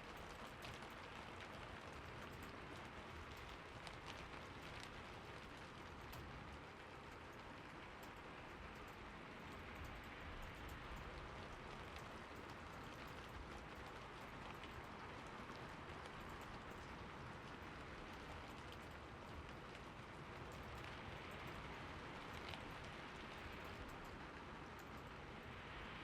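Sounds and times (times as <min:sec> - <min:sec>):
raindrops ticking: 0:00.0 - 0:26.0
soft steady rain: 0:00.0 - 0:26.0.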